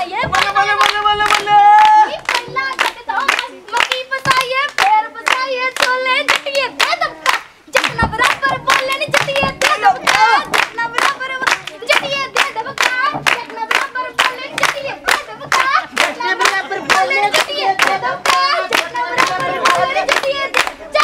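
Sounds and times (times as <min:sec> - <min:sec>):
rhythmic hand-clapping: 0:00.0 - 0:21.0
women singing: 0:00.0 - 0:21.0.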